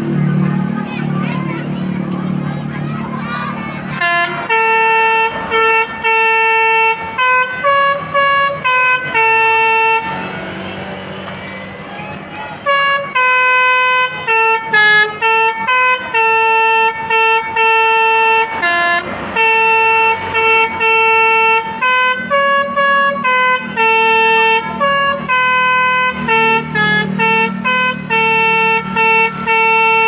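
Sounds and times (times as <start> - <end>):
musical bus horn playing tune: 0.1 - 30.0.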